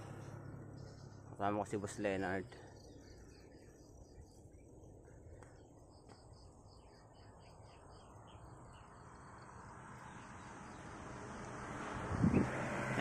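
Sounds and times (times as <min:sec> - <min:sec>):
lower chirps: 0:00.0 - 0:12.5.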